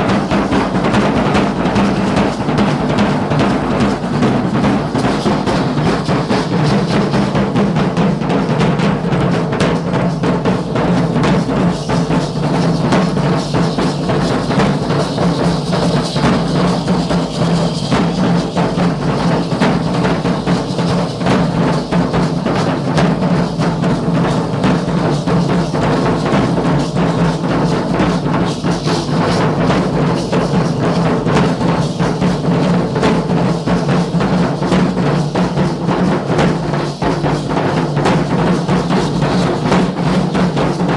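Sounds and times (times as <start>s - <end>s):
drums beating steady rhythm: 0.0s - 40.9s.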